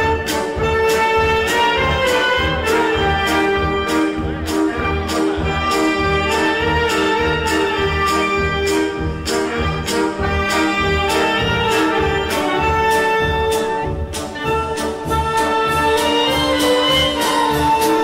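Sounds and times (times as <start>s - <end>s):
upbeat brass instrumental music: 0.0s - 18.0s.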